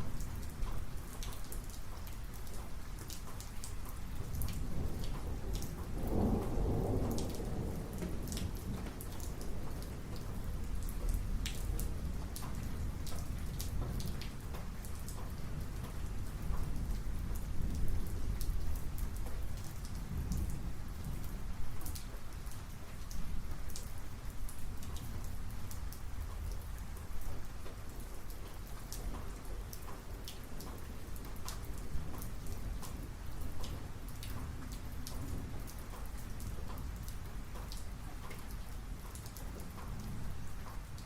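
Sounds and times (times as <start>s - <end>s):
raindrops ticking on a surface: 0.0s - 41.0s
steady rain: 0.0s - 41.0s.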